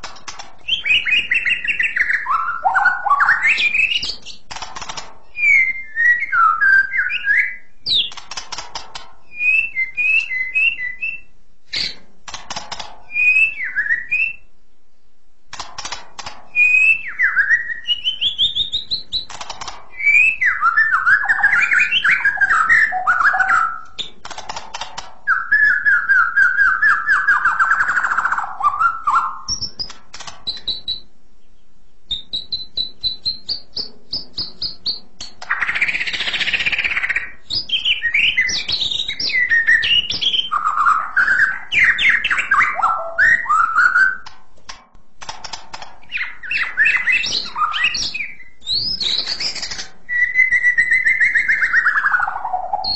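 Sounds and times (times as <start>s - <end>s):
bird singing whistles and trills: 0.6s - 4.5s, 5.3s - 8.2s, 9.3s - 12.0s, 13.1s - 14.5s, 16.5s - 24.2s, 25.3s - 44.3s, 46.0s - 52.9s.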